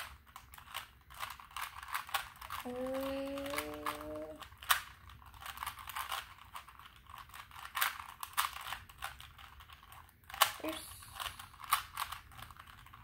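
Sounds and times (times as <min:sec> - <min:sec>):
puzzle cubes clicking and rattling: 0:00.0 - 0:13.0.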